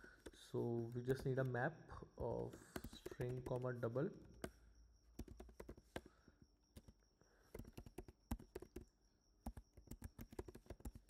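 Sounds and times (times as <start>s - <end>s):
computer keyboard typing: 0.0s - 1.6s, 2.3s - 6.1s, 6.7s - 11.0s.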